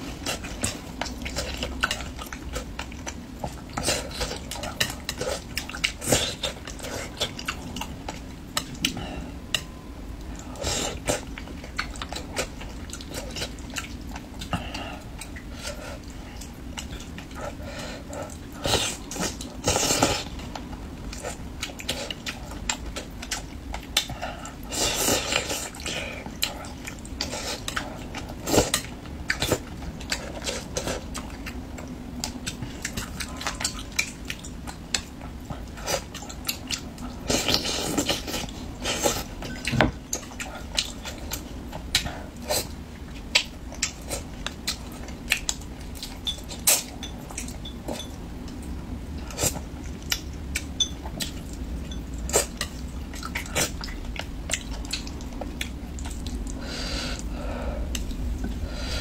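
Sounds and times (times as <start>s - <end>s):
wet chewing and mouth clicks: 0.1s - 17.5s, 18.1s - 56.6s, 57.9s - 58.6s.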